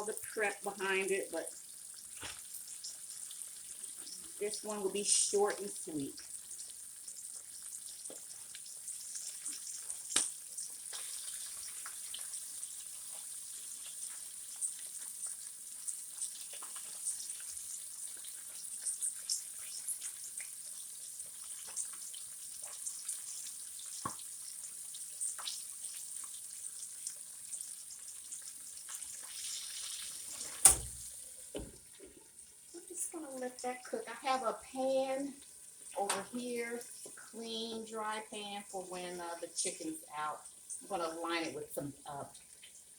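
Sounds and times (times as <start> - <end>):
chicken deep-frying in oil: 0.0 - 42.9.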